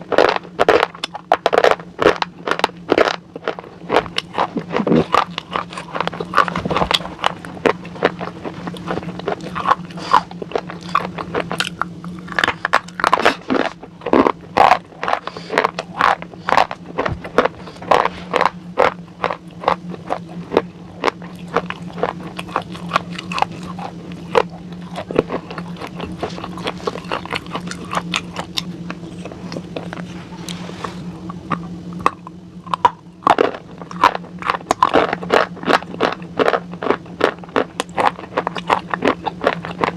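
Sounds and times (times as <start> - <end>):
crunchy chewing: 0.0 - 39.9
steady low hum: 0.0 - 39.9.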